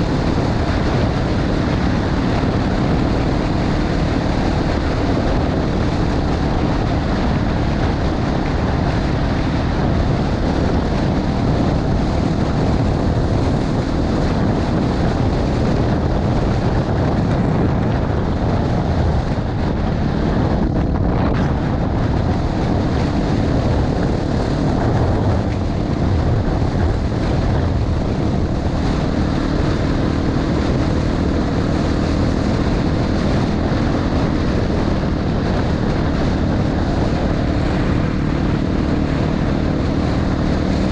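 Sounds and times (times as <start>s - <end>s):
motorcycle engine cruising: 0.0s - 40.9s
wind buffeting microphone: 0.0s - 40.9s.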